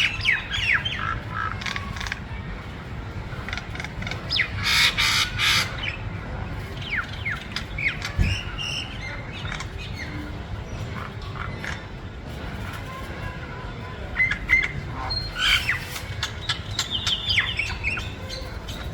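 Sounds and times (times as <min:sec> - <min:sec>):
harsh bird calls: 0:00.0 - 0:02.2, 0:03.4 - 0:12.0, 0:14.0 - 0:18.9
birds chirping: 0:00.0 - 0:02.3, 0:03.4 - 0:12.1, 0:14.0 - 0:18.9.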